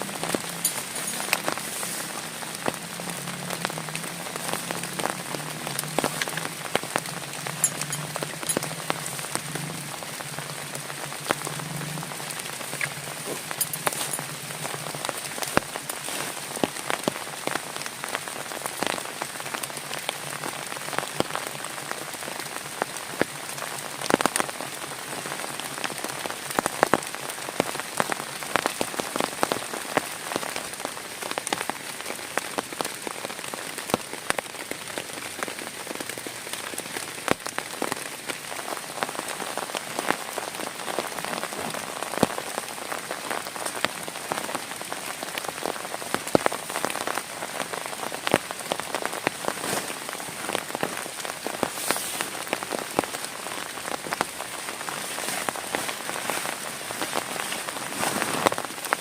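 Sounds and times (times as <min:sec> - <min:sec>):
heavy rain: 0:00.0 - 0:59.0
raindrops ticking on close surface: 0:00.0 - 0:59.0.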